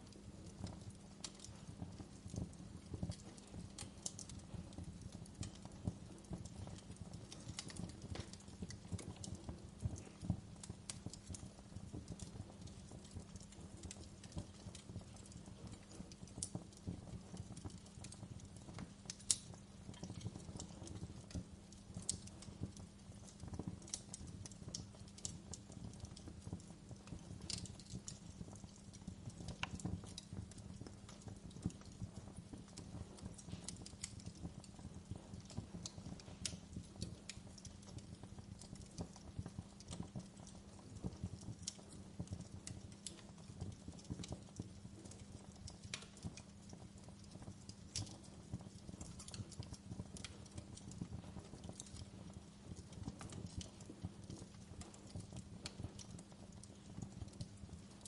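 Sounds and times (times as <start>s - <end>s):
firewood crackling and popping: 0.0s - 58.0s
low rumble of flames: 0.0s - 58.0s.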